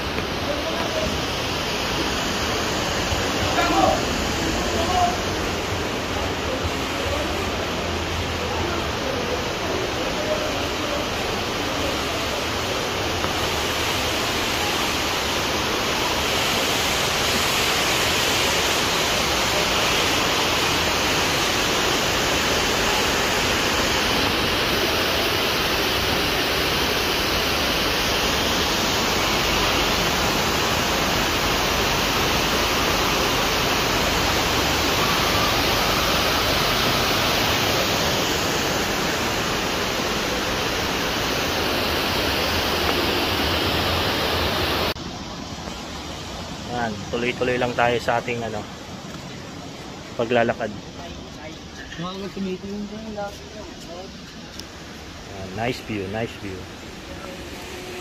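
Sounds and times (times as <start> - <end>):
water rushing over a dam: 0.0 - 58.0.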